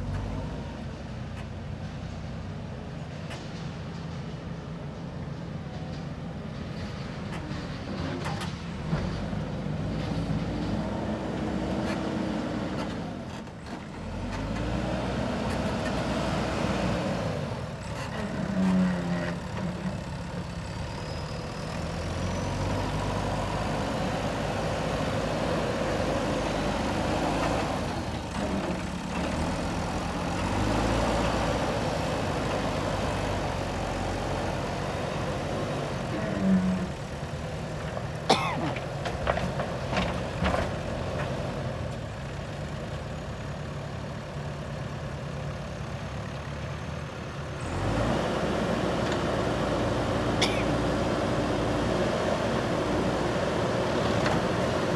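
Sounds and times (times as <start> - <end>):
backhoe diesel engine working: 0.0 - 54.9.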